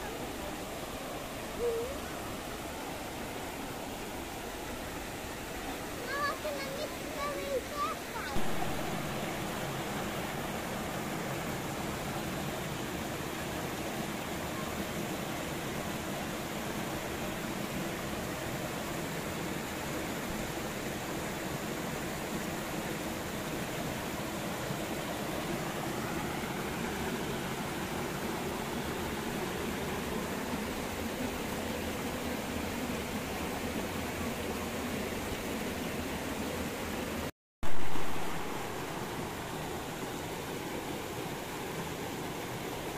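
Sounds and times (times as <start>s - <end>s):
stream rushing over rocks: 0.0s - 42.9s.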